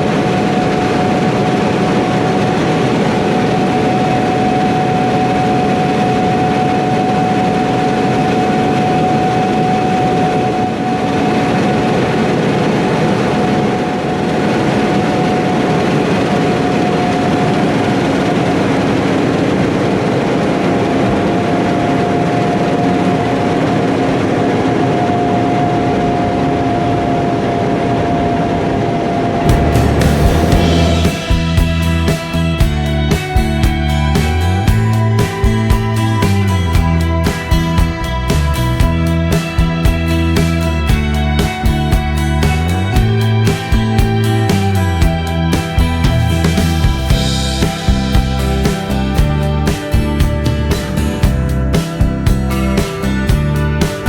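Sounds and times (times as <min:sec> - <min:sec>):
harvest machinery engine drone: 0:00.0 - 0:54.0
high machinery whine: 0:00.0 - 0:54.0.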